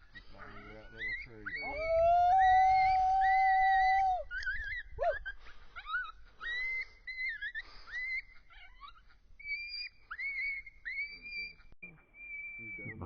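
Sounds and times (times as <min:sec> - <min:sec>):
coyote yips and howls: 0:00.0 - 0:13.0.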